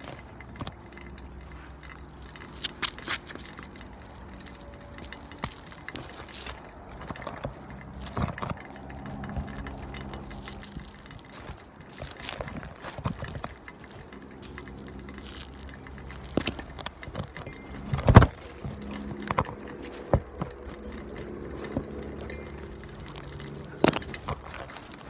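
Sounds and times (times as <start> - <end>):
hands fumbling with camera: 0.0 - 25.0.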